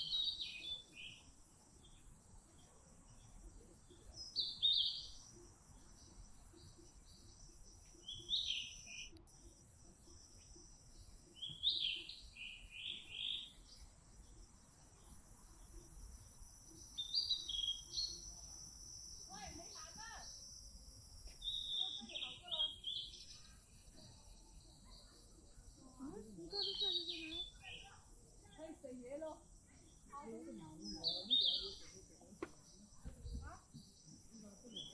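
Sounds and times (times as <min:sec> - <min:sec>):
small bird chirping: 0:00.0 - 0:34.9.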